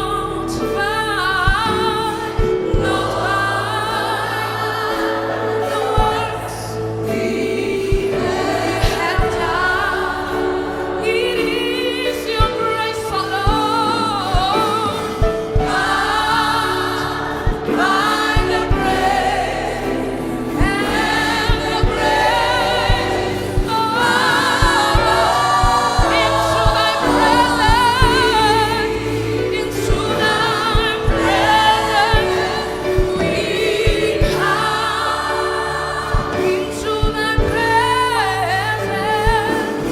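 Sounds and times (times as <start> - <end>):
choir singing gospel music: 0.0 - 39.9.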